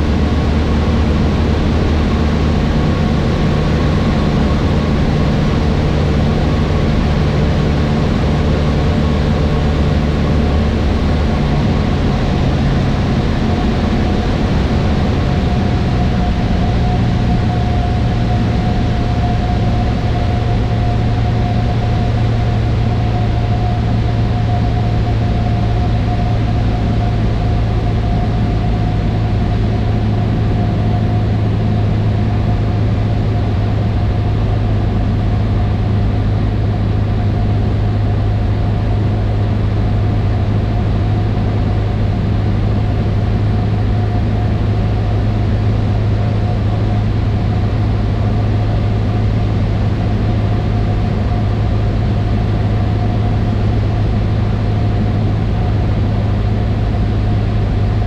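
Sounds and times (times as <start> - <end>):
airplane engine drone in cockpit: 0.0 - 58.0.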